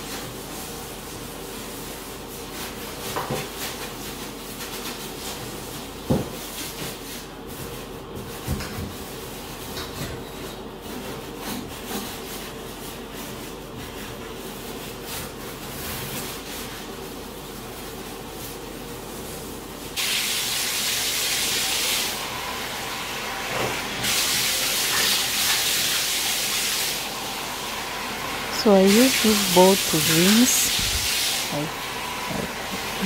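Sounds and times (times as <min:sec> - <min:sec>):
sponge scrubbing a bathtub: 0:00.0 - 0:33.0.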